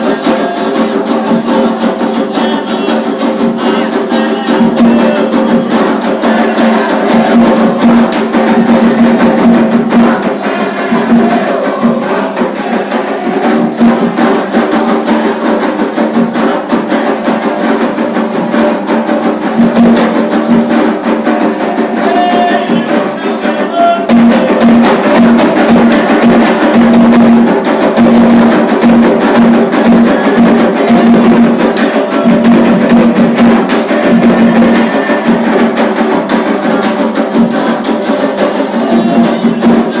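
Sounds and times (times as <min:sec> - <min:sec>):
hand drums beating a rhythm: 0:00.0 - 0:40.0.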